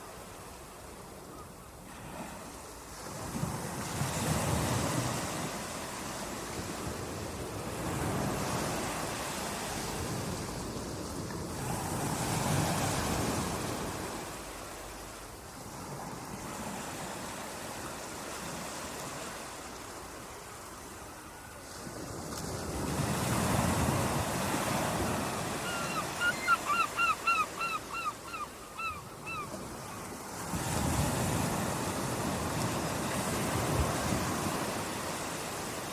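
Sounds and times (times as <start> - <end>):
sea waves washing onto beach: 0.0 - 28.0, 28.8 - 35.9.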